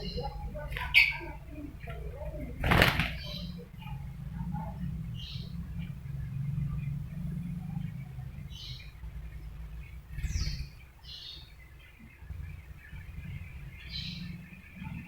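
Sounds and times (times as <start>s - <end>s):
lovebird chirping: 0.0s - 15.0s
steady low rumble: 0.0s - 15.0s.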